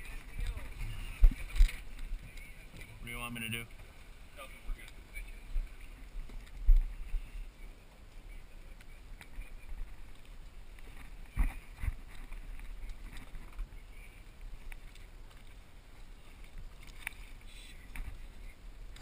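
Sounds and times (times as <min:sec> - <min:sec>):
water and wind along hull: 0:00.0 - 0:19.0.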